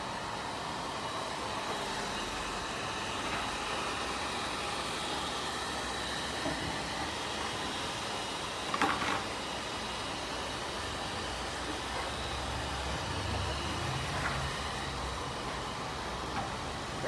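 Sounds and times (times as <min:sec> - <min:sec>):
pet grooming dryers rushing: 0:00.0 - 0:17.0.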